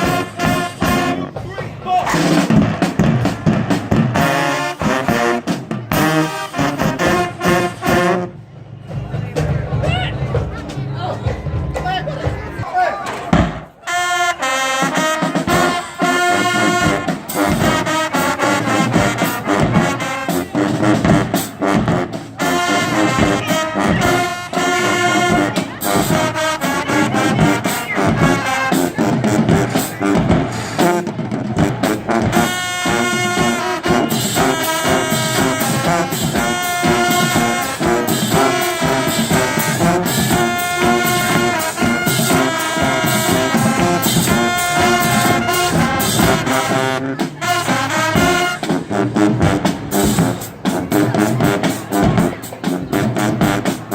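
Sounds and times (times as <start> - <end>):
trombones and trumpets: 0.0 - 10.9, 13.1 - 53.9
school band playing: 0.0 - 53.9.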